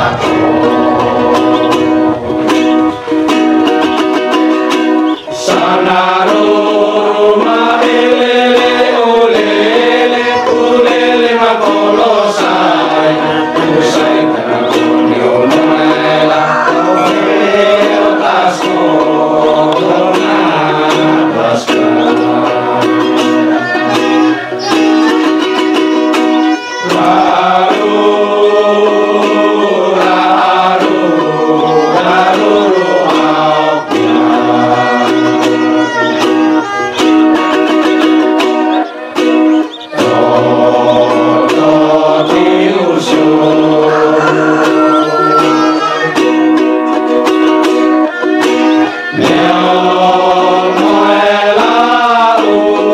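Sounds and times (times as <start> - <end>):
men's choir singing a hymn: 0.0 - 25.9, 26.7 - 52.9
plucked strings: 0.0 - 52.9
violin: 0.0 - 52.9.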